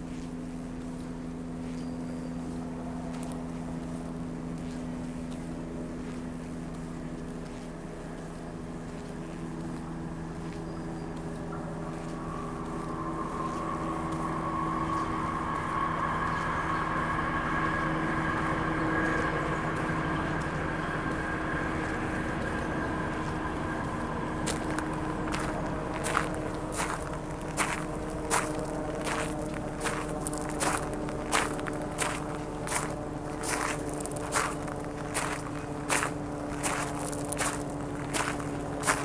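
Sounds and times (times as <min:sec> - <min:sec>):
footsteps on gravel: 0:00.0 - 0:39.0
steady engine hum: 0:00.0 - 0:39.0.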